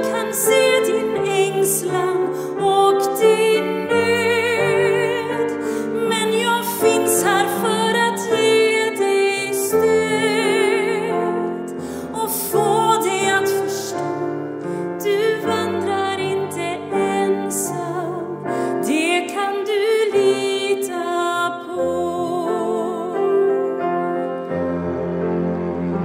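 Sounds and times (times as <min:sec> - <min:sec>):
woman singing: 0:00.0 - 0:24.4
cello: 0:00.0 - 0:26.0
piano: 0:00.0 - 0:26.0.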